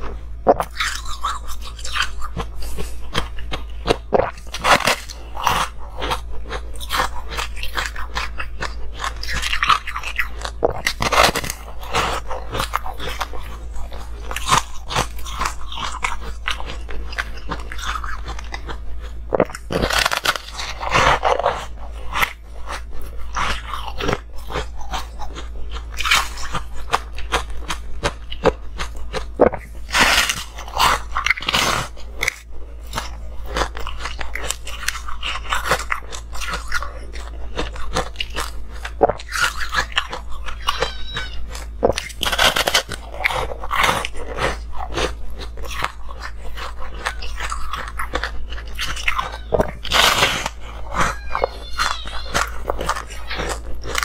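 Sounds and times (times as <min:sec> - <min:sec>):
ice being bitten and chewed: 0:00.0 - 0:54.0.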